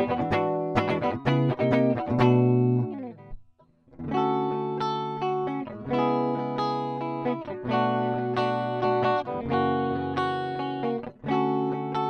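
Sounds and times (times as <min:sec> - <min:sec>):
clean electric guitar chords: 0:00.0 - 0:03.4, 0:04.0 - 0:12.0.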